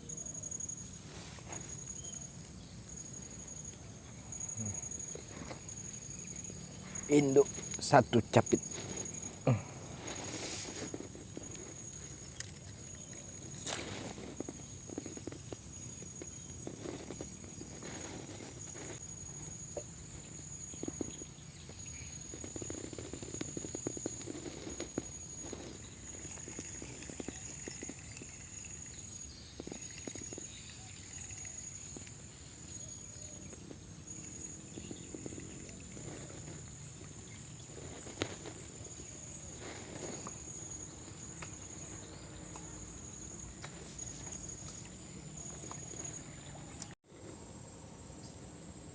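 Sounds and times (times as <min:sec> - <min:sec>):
insect chorus: 0:00.0 - 0:48.9.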